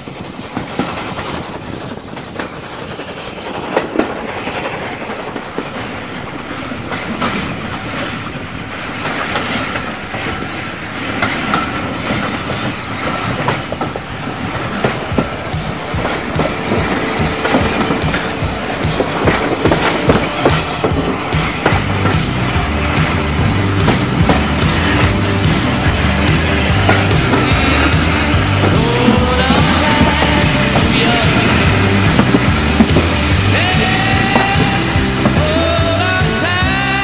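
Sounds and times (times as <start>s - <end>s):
steady rushing noise: 0.0s - 37.0s
train wheels clicking over rail joints: 0.0s - 37.0s.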